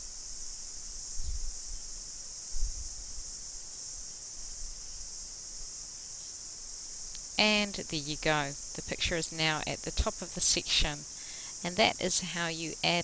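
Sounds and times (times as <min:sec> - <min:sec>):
microphone hiss: 0:00.0 - 0:13.0.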